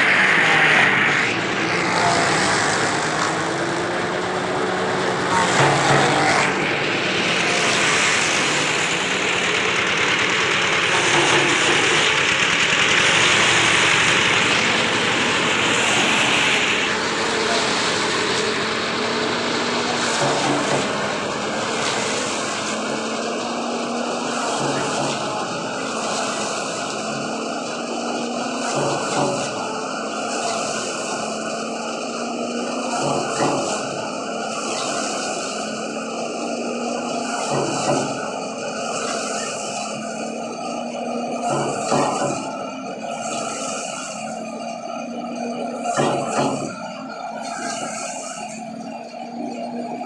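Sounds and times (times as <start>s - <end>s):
cutter hissing and grinding: 0.0s - 40.5s
wood-shaving machine whirring: 0.0s - 50.0s.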